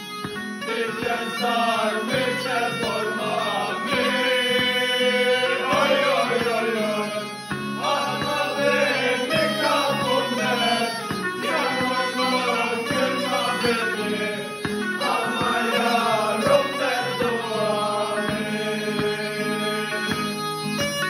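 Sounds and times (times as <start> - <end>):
bagpipe folk melody: 0.0 - 21.0
guitar strumming: 0.0 - 21.0
men singing: 0.6 - 20.3.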